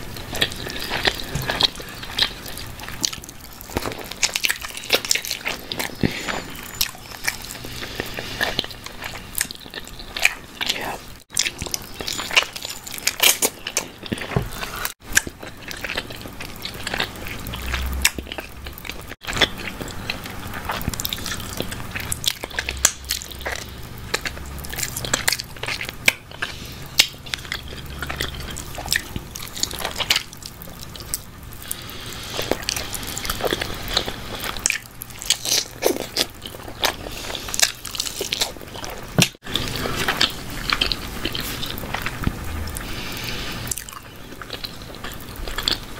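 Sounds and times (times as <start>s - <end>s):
biting and chewing chicken: 0.0s - 45.9s.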